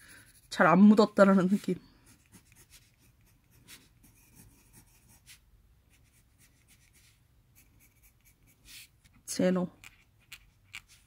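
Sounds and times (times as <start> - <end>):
colored pencil scratching on paper: 0.0 - 11.0.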